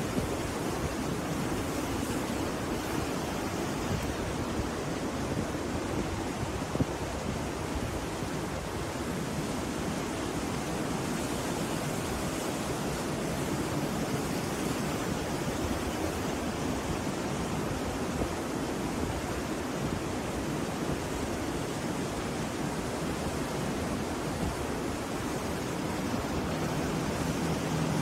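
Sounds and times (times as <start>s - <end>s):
sea surf breaking on beach: 0.0s - 28.0s.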